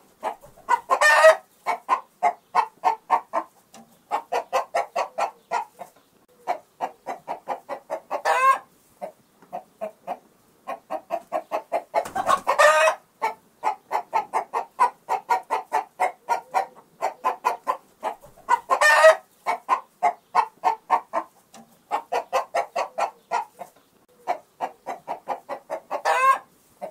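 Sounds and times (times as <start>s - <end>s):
hen clucking: 0.0s - 26.9s.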